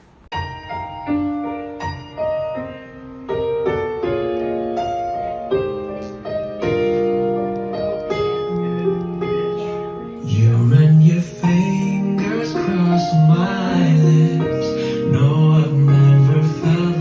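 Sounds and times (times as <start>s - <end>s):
slow solo piano: 0.0s - 17.0s.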